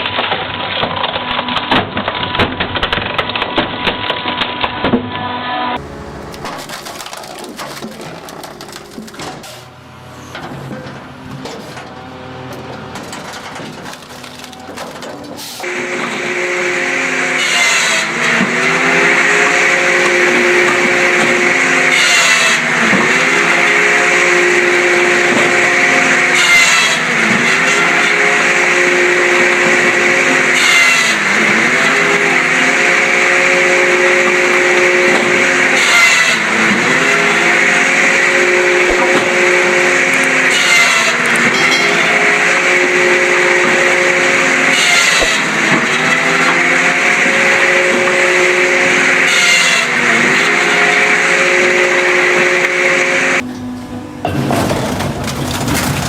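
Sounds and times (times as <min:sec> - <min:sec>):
press machine droning: 0:05.8 - 0:56.0.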